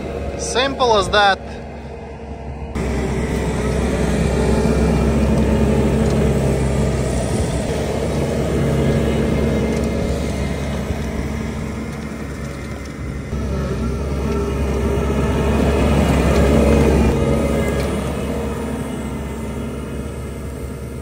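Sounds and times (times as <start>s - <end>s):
loader engine running under load: 0.0s - 21.0s.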